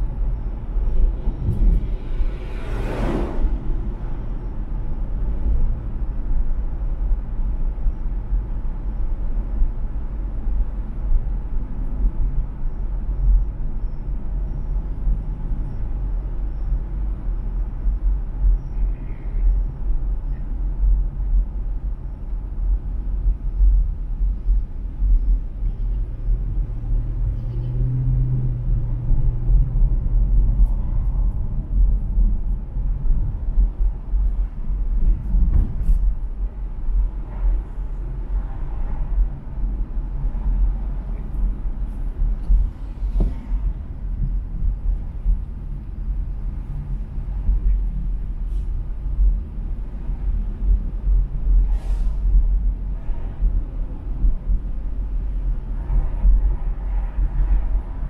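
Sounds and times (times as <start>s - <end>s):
car interior road and engine rumble: 0.0s - 58.0s.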